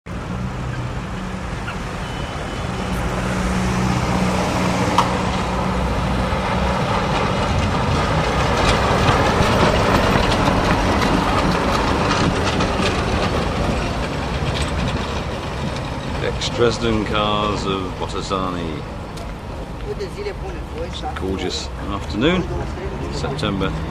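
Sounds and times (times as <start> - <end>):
road traffic passing: 0.0 - 23.9
tram passing on street track: 0.1 - 23.9.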